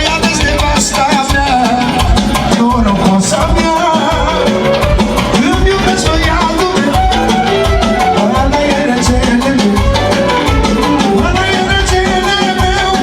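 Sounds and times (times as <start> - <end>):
drums dance beat: 0.0 - 13.0
fast ornamented band melody: 0.0 - 13.0.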